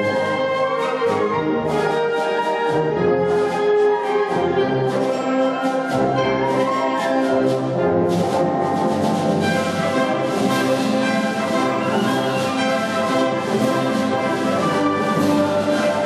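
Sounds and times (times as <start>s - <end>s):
wind band playing: 0.0s - 16.0s.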